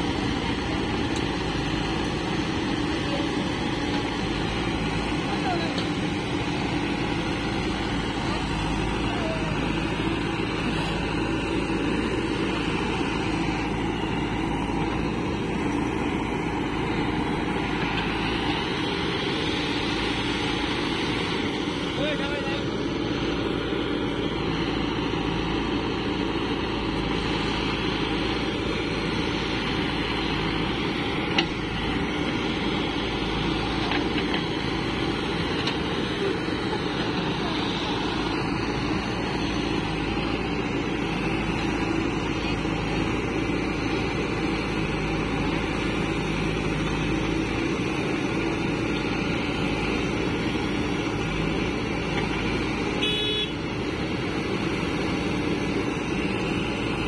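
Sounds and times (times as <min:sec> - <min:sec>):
backhoe loader working: 0:00.0 - 0:57.0
tractor diesel engine idling: 0:00.0 - 0:57.0.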